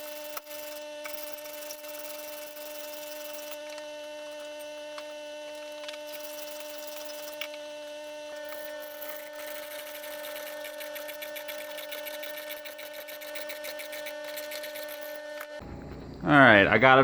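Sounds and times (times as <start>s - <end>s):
electric winch motor whining: 0.0s - 15.7s.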